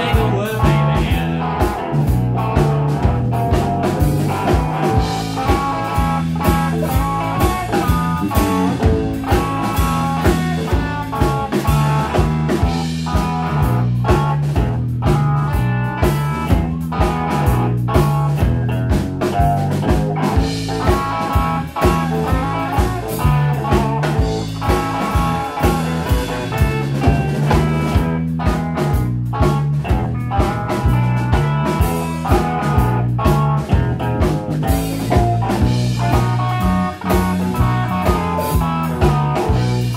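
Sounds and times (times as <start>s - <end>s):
bass guitar: 0.0s - 39.9s
distorted electric guitar: 0.0s - 39.9s
drum kit beat: 0.0s - 39.9s.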